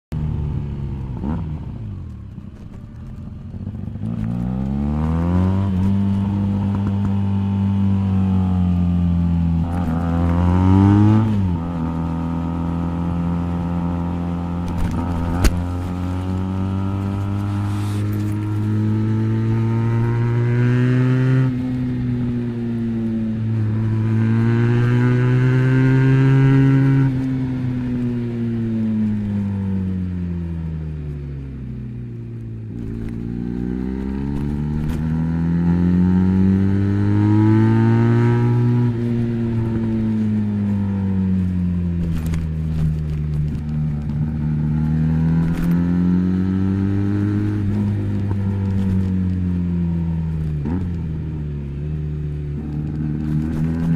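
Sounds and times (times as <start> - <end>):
motorcycle engine revving: 0.2 - 53.9.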